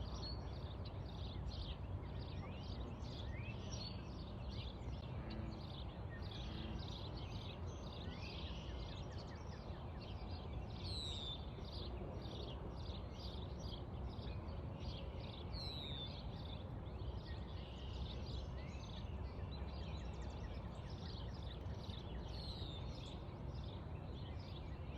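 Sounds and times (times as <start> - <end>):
low outdoor background noise: 0.0 - 24.9.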